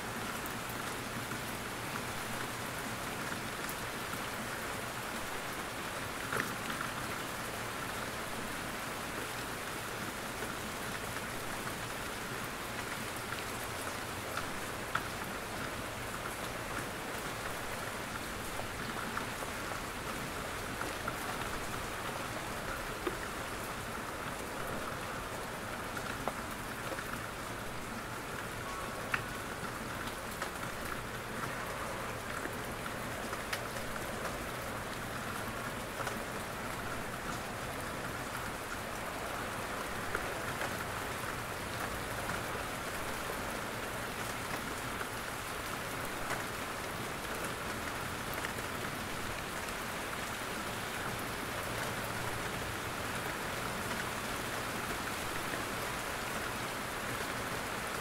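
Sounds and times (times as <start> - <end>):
steady rain in a forest: 0.0 - 58.0.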